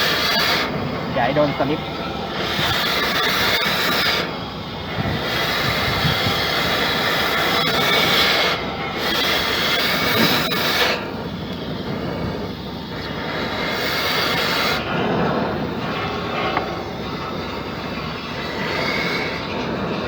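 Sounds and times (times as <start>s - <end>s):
pneumatic tool air hissing: 0.0s - 20.0s.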